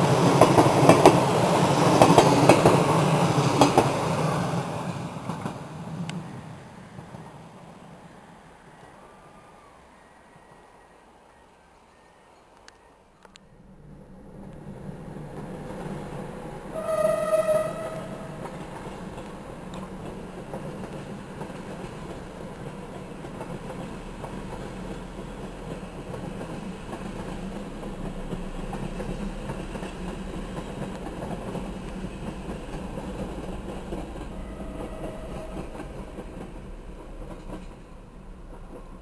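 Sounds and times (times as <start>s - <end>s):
train coaches rolling on rails: 0.0s - 11.3s, 12.3s - 39.0s.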